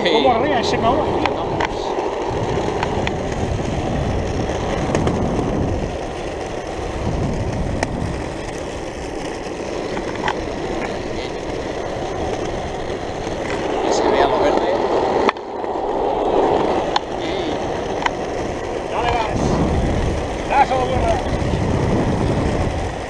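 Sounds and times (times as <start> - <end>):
wheels rolling over asphalt: 0.0 - 23.0.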